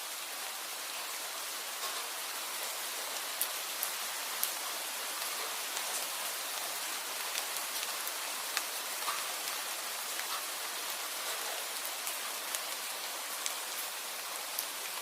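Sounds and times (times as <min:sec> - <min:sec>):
steady rain hiss: 0:00.0 - 0:15.0
raindrops ticking: 0:01.7 - 0:15.0.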